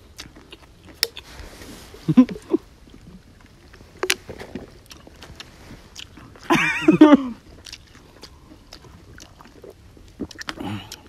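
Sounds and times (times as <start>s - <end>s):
people chewing crunchily: 0.0s - 11.0s.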